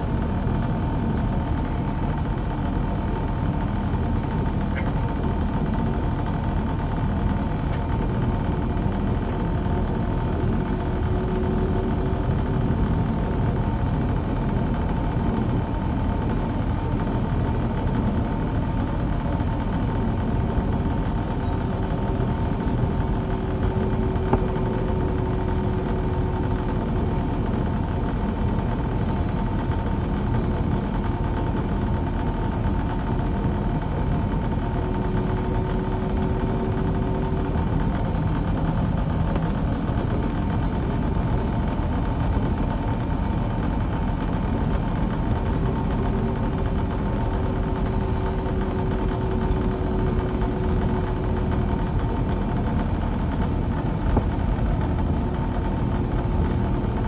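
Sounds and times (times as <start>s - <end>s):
airplane cabin engine noise: 0.0s - 57.0s
faint hum: 0.0s - 57.0s.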